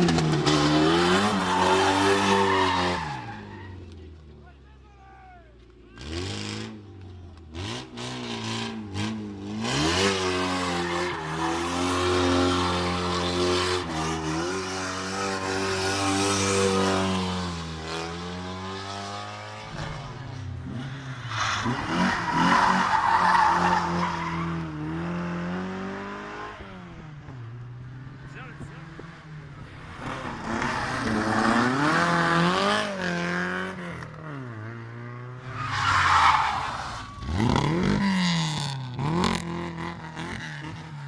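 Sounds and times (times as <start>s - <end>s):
rally car engine revving: 0.0s - 4.3s, 5.6s - 41.0s
tyres skidding: 0.0s - 41.0s.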